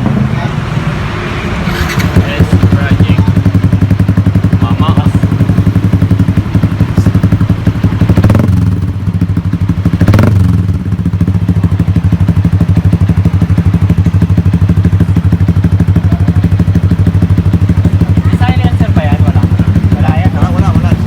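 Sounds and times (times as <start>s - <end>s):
motorcycle idling: 0.0s - 21.0s
motorcycle throttle blips: 1.6s - 21.0s.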